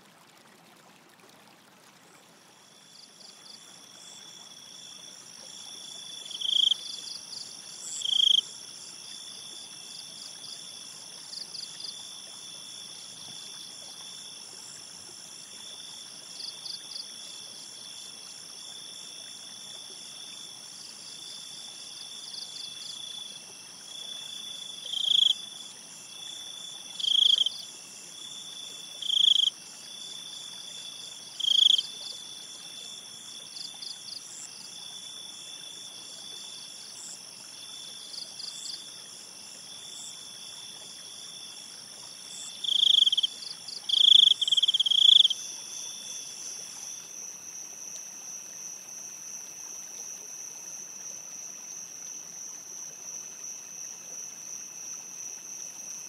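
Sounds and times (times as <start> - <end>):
crickets trilling: 2.7 - 56.0.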